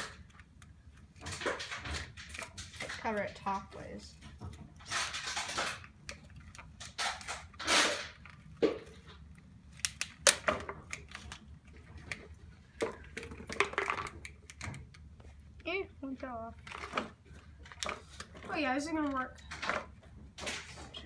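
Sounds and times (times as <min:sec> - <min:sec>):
plastic bottles crinkling: 0:00.0 - 0:15.0, 0:16.3 - 0:21.0.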